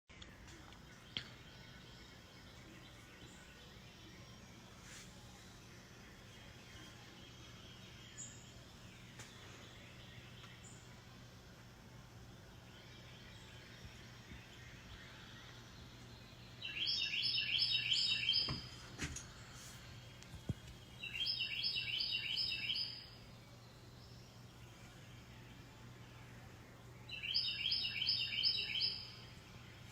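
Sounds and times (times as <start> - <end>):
faint outdoor background hum: 0.1 - 29.9
songbird singing: 0.1 - 29.9.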